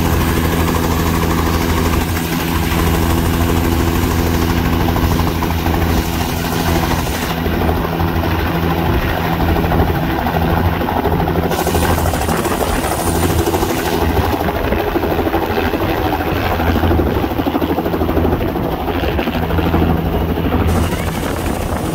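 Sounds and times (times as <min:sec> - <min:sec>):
helicopter rotor and engine: 0:00.0 - 0:21.9.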